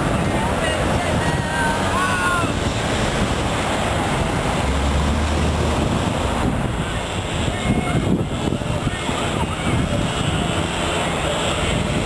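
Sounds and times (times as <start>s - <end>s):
street traffic noise: 0.0s - 12.0s
wind on microphone: 0.0s - 12.0s.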